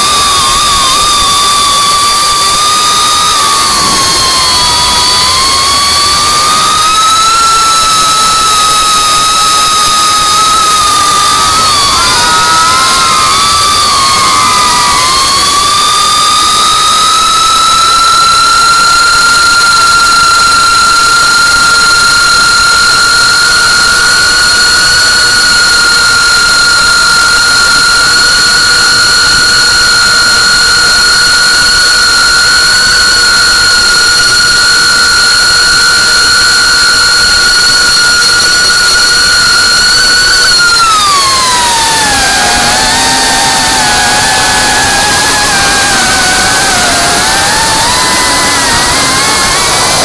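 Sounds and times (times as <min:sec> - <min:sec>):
drone motors whining: 0:00.0 - 0:50.0.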